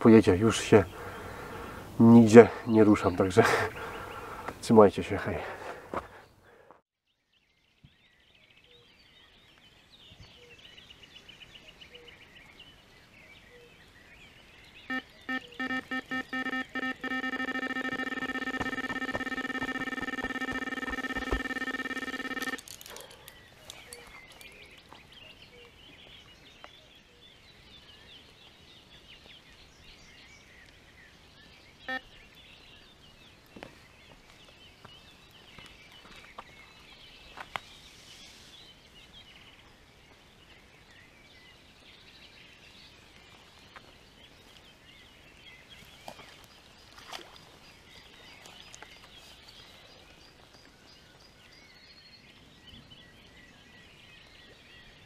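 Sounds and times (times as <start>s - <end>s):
small birds chirping and singing: 0.0s - 16.4s, 18.9s - 55.0s.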